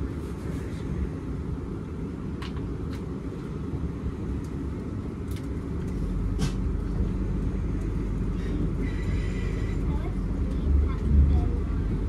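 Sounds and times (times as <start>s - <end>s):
electric train carriage rumble: 0.0s - 12.0s.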